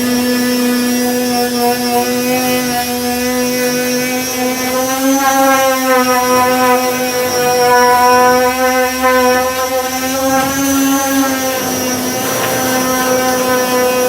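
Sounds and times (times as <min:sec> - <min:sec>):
power sander whining: 0:00.0 - 0:14.0.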